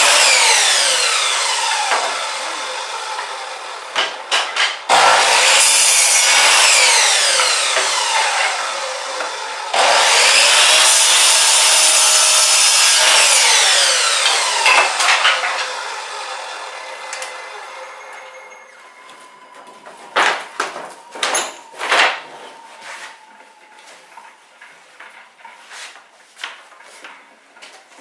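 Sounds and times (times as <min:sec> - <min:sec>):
electric chop saw cutting wood: 0:00.0 - 0:23.7.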